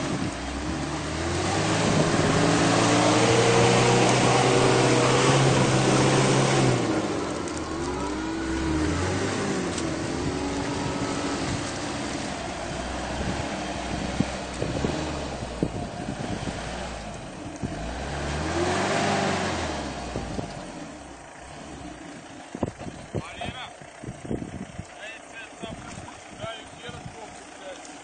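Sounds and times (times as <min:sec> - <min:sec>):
suv engine revving: 0:00.0 - 0:28.0.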